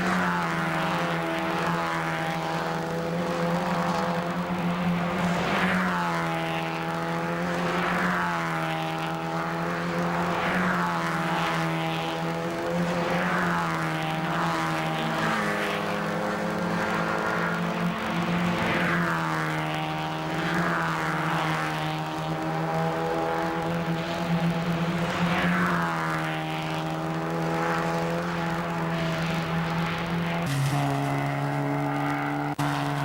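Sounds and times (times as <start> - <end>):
race cars driving past: 0.0 - 33.0
steady engine drone: 0.0 - 33.0.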